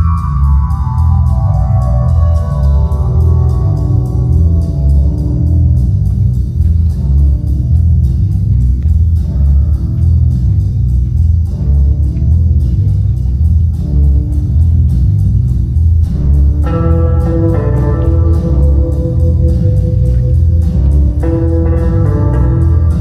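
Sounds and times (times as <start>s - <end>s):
instrumental music with pulsing bass: 0.0s - 23.0s.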